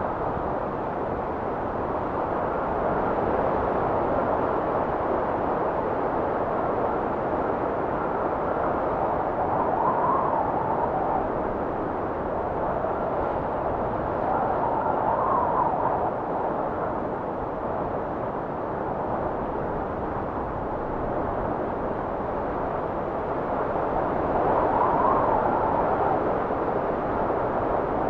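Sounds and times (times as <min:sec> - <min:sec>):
blizzard wind rushing: 0:00.0 - 0:28.0
faint wind howl: 0:00.0 - 0:28.0.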